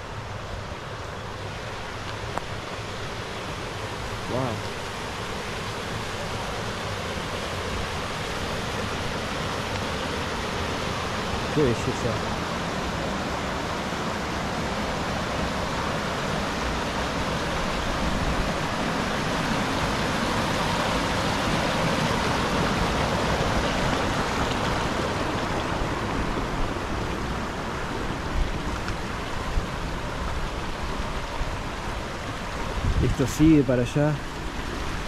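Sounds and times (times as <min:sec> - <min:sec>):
water rushing over cascades: 0:00.0 - 0:35.0.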